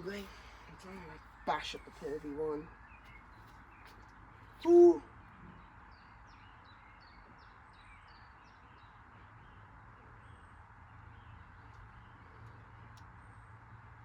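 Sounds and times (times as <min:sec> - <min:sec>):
small bird chirping: 0:00.0 - 0:13.5
steady low hum: 0:00.0 - 0:14.0.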